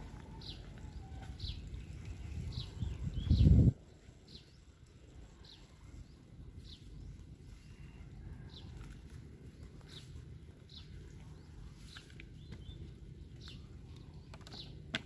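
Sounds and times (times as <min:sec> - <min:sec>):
bird chirping: 0:00.0 - 0:09.0, 0:09.6 - 0:15.0.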